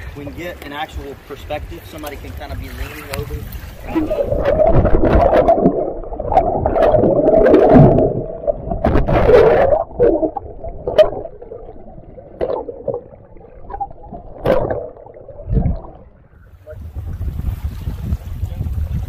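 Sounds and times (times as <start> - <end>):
muffled underwater water sloshing: 0.0 - 19.0.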